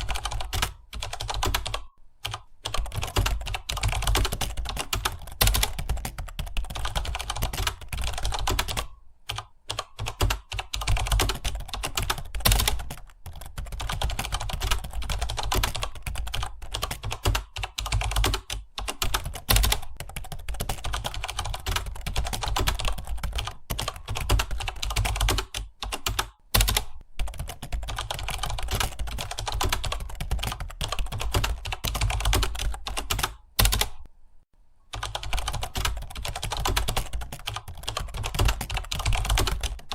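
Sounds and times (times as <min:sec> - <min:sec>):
fast keyboard typing: 0:00.0 - 0:34.1, 0:34.9 - 0:39.9.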